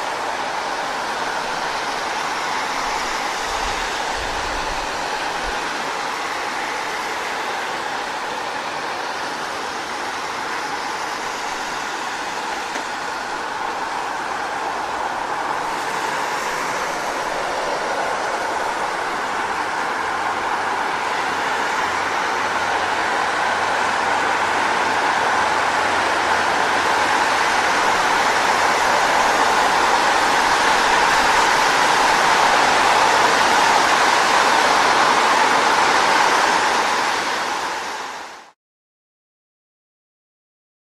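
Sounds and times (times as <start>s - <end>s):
car tyres hissing on wet road: 0.0s - 38.6s.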